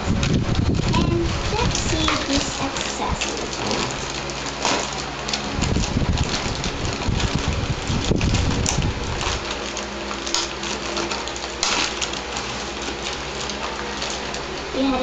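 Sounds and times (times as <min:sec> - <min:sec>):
plastic rustling and crinkling: 0:00.0 - 0:15.0.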